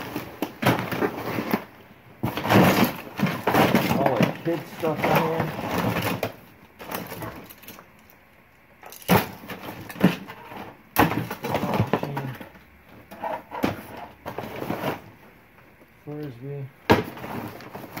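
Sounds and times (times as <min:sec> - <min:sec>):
rustling of objects in a box: 0:00.0 - 0:18.0.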